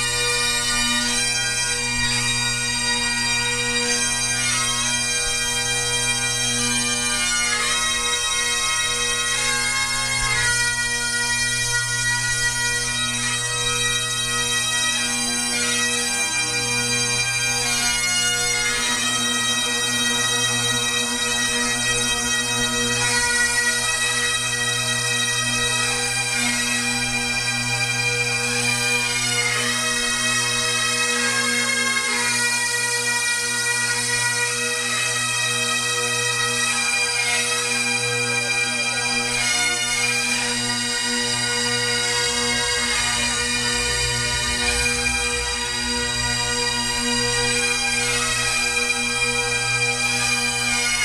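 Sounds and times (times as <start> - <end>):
bagpipes playing a slow air: 0.0 - 51.0.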